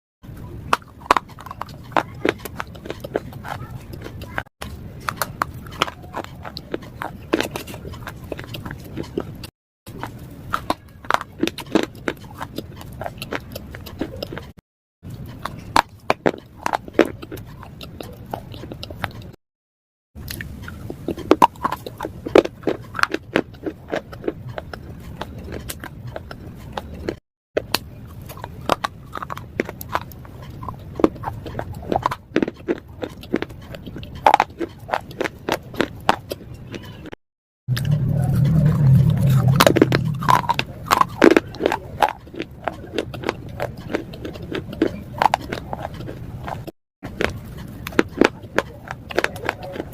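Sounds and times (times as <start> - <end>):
slate being chewed: 0.4 - 19.4, 20.2 - 49.9.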